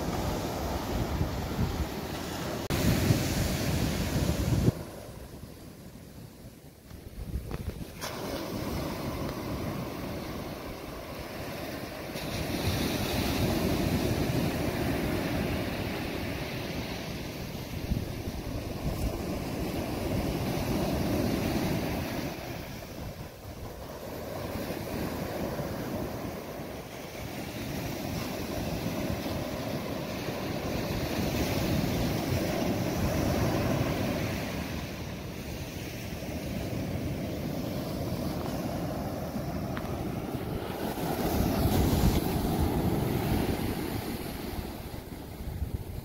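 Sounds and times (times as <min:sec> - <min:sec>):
surf washing onto beach: 0:00.0 - 0:46.0
wind rumbling on microphone: 0:00.0 - 0:46.0.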